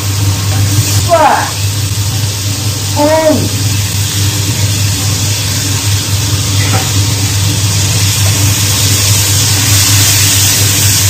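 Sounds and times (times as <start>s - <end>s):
food sizzling in a wok: 0.0s - 11.0s
steady low hum: 0.0s - 11.0s.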